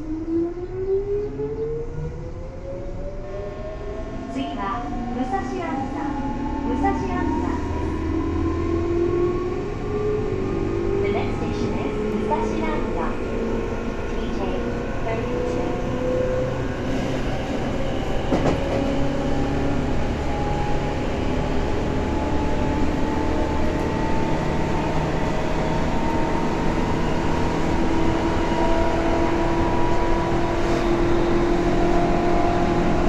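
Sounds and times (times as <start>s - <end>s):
train rail rumble: 3.8s - 33.0s.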